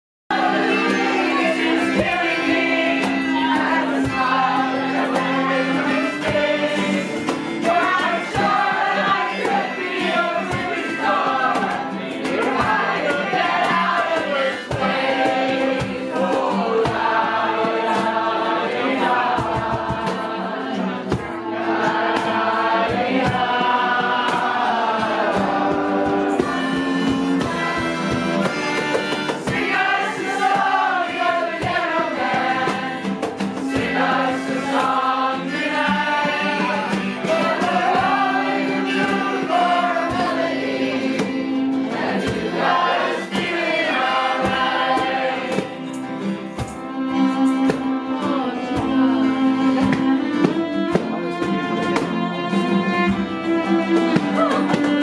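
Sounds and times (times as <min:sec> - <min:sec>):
acoustic guitars: 0:00.3 - 0:55.0
cajon tapping a beat: 0:00.3 - 0:55.0
people singing in chorus: 0:00.3 - 0:55.0.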